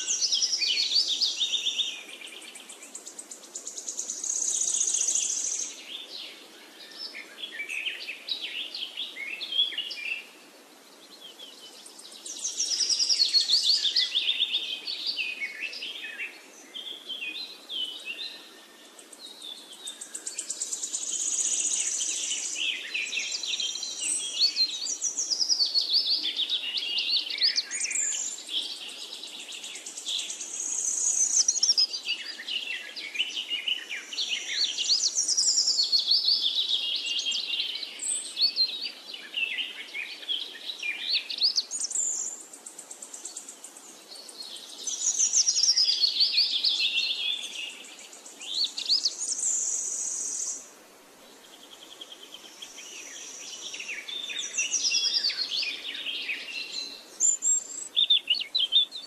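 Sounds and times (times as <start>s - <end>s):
birds chirping and trilling: 0.0s - 59.0s
faint steady hiss: 0.0s - 59.0s.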